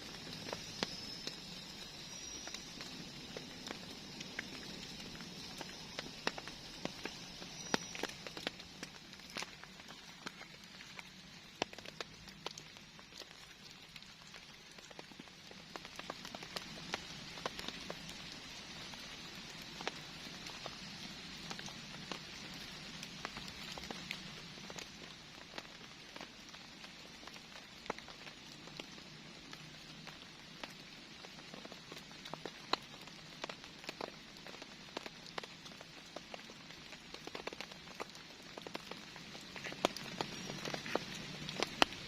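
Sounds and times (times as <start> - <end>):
rain falling: 0.0 - 42.0
raindrops ticking close by: 0.0 - 42.0.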